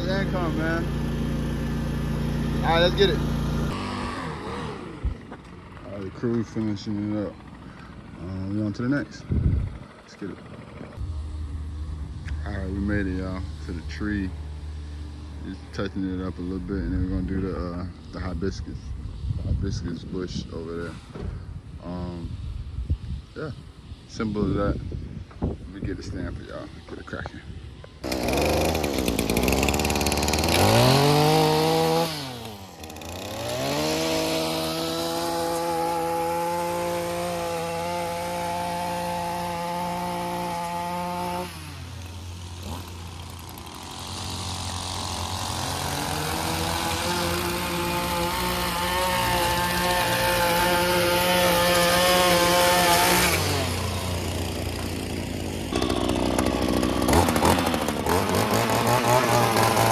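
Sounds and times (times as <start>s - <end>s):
chainsaw engine revving: 0.0s - 22.4s, 27.9s - 59.9s.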